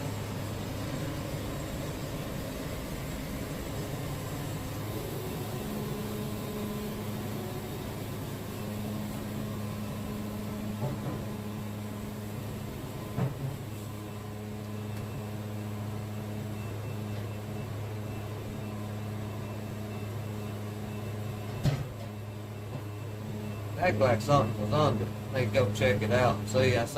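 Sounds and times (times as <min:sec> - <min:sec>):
band sawmill humming: 0:00.0 - 0:26.9.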